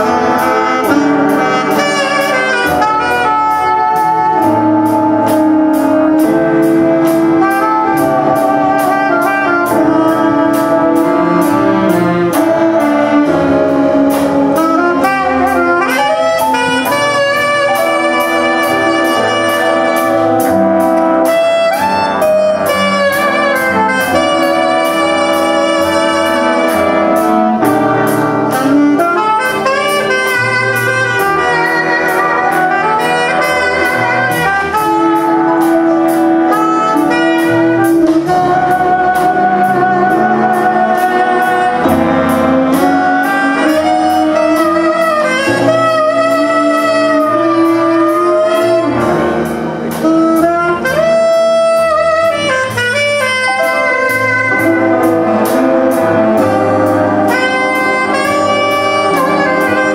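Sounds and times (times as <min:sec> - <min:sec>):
jazz big band playing: 0:00.0 - 0:59.9
saxophone solo: 0:00.0 - 0:59.9.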